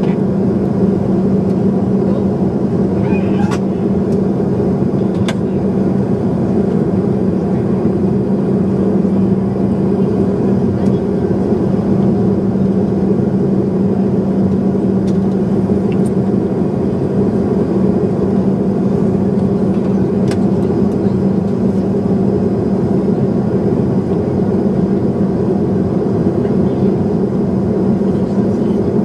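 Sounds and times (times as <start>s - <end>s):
airliner engine drone: 0.0s - 29.0s.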